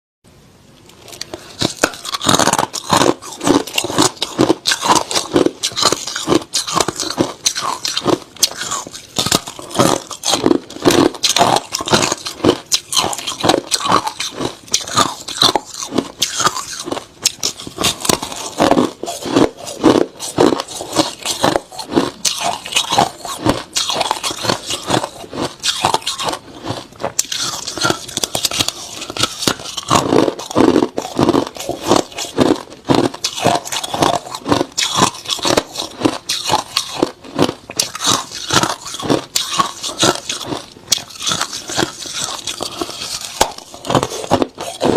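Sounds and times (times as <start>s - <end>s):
chewing crushed ice: 0.9s - 44.9s.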